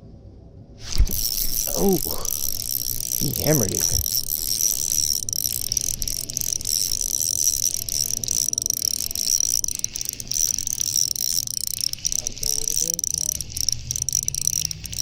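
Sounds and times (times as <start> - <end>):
high-pitched insect chirring: 0.8 - 15.0.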